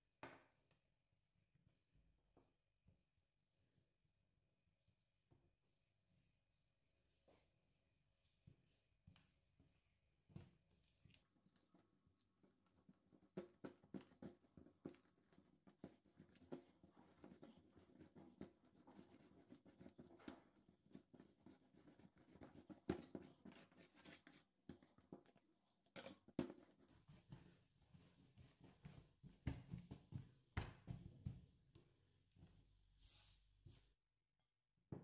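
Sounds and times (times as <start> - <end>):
dough kneaded on wooden table: 0.1 - 35.0.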